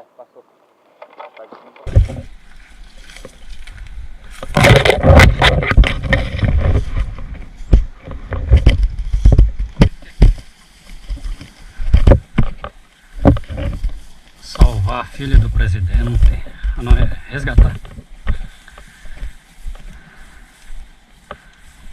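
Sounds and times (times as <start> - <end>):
rustling through undergrowth: 0.4 - 21.9.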